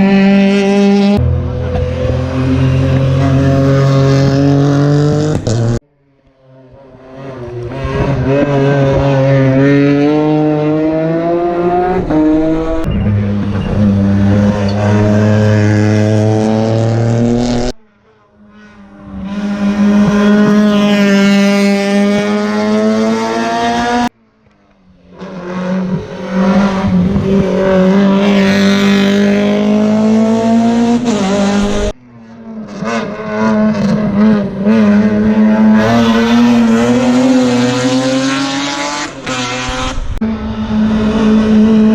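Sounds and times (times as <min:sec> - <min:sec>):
rally car engines revving: 0:00.0 - 0:41.9.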